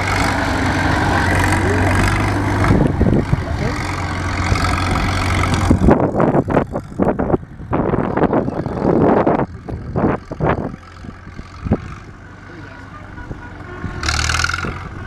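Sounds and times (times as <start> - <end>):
bulldozer engine running: 0.0 - 15.0.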